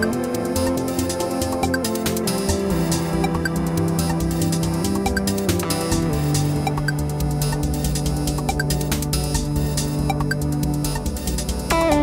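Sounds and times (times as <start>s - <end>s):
light electronic beat: 0.0s - 12.0s.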